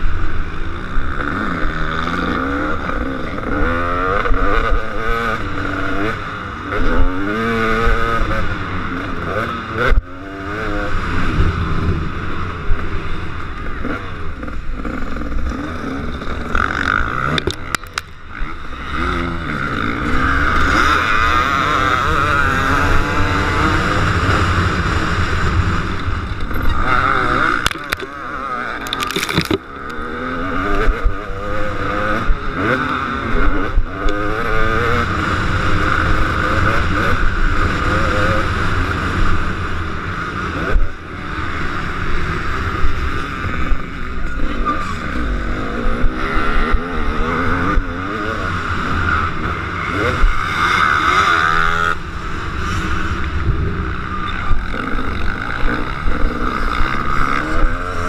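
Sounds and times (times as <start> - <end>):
motocross engine revving: 0.0 - 58.0.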